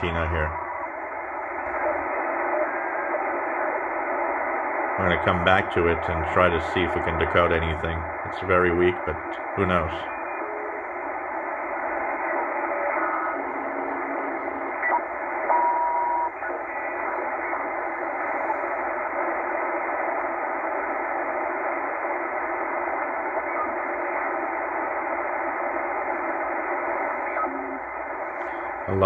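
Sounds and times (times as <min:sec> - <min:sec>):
brief steady radio tone: 0:00.0 - 0:29.0
radio static hiss: 0:00.0 - 0:29.0.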